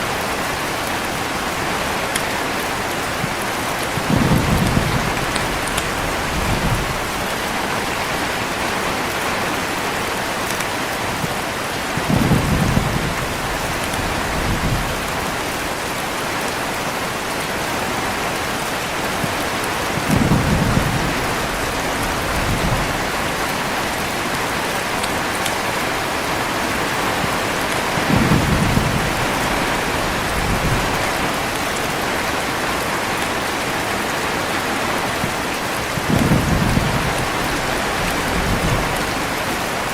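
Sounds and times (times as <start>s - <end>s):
heavy rain: 0.0s - 39.9s
thunder rumbling: 0.1s - 10.3s, 11.9s - 16.4s, 17.4s - 33.2s, 34.4s - 39.9s.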